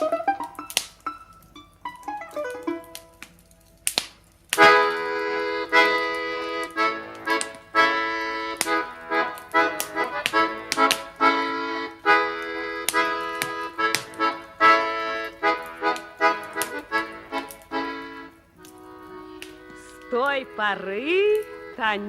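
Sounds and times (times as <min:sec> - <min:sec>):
folk accordion music: 0:00.0 - 0:01.3, 0:04.6 - 0:22.0.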